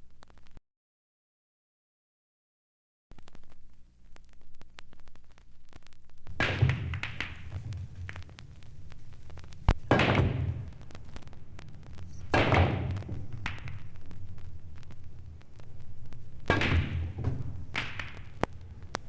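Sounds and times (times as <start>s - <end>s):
faint crackle of clicks: 0.0s - 0.6s, 3.1s - 19.0s.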